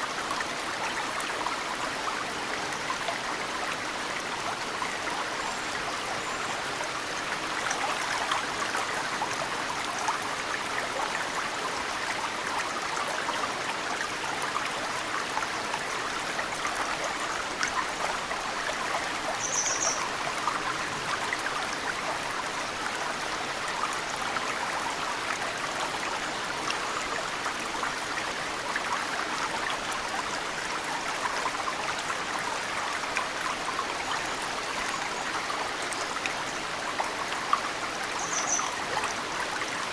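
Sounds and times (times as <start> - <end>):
stream flowing: 0.0 - 39.9
water trickling and dripping: 0.0 - 39.9.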